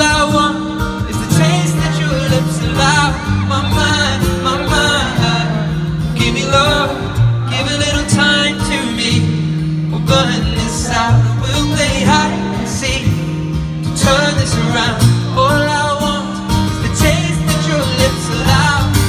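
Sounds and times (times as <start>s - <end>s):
acoustic guitar: 0.0s - 19.0s
man singing: 0.0s - 19.0s.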